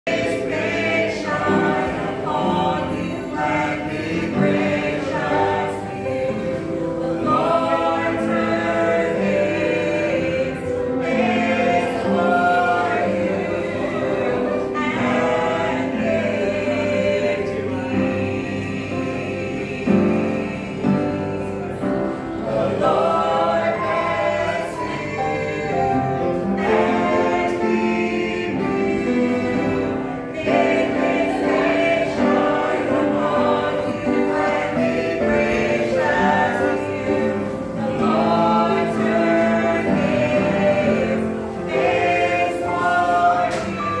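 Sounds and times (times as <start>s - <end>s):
choir singing long notes: 0.0s - 44.0s.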